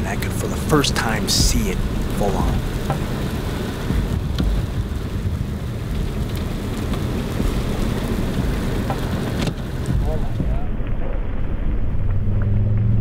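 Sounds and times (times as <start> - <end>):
deep low thunder rumble: 0.0 - 13.0
steady rain: 0.0 - 13.0
wind: 0.0 - 13.0.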